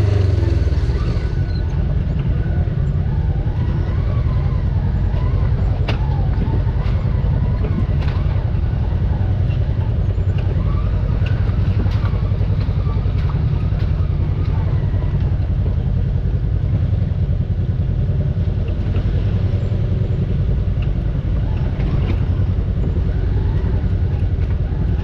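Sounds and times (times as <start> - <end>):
vehicle engine running low: 0.0 - 25.0.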